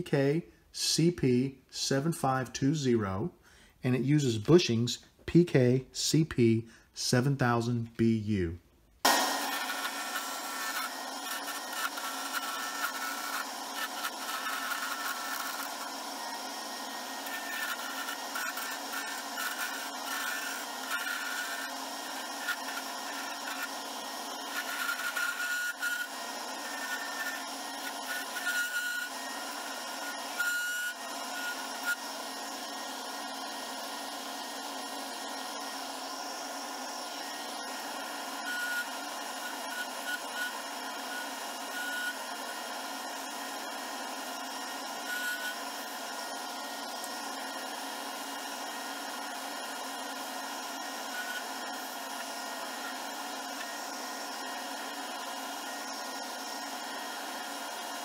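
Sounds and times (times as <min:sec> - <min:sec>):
lathe tool cutting resin: 0:09.0 - 0:58.0.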